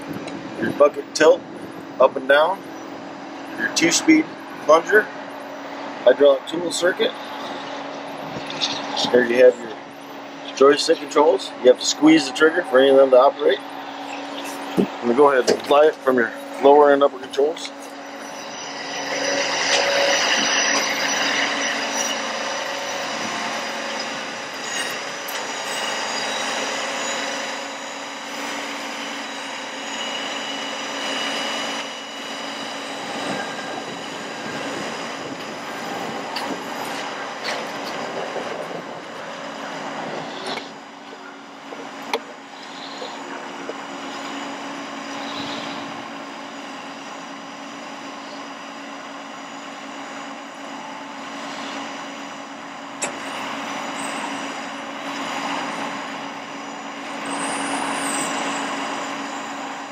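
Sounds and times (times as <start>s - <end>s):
hydraulic system whining: 0.0s - 59.9s.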